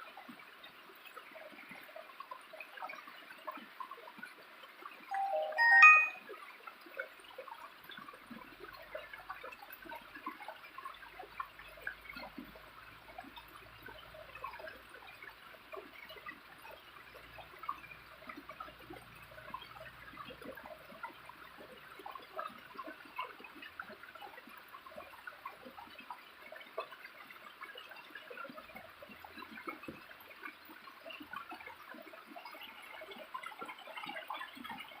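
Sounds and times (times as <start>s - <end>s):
small waterfall trickling: 0.0s - 5.5s, 6.3s - 35.0s.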